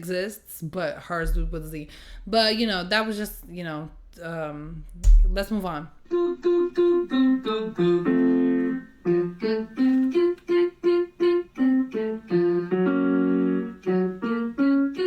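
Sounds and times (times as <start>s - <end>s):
piano notes: 1.2s - 15.0s.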